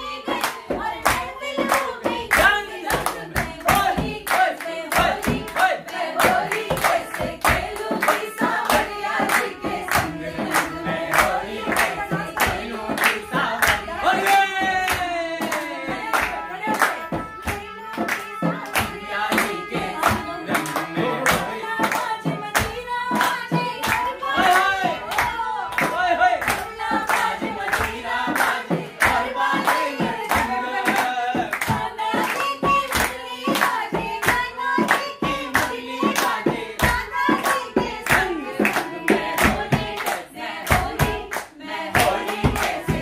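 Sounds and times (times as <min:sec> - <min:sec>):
hand clapping on the beat: 0:00.0 - 0:43.0
voices singing folk song: 0:00.0 - 0:43.0.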